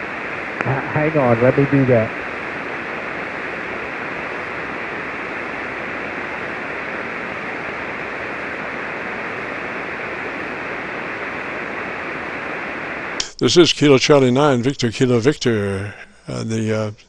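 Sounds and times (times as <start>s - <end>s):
radio receiver band noise hiss: 0.0s - 17.0s.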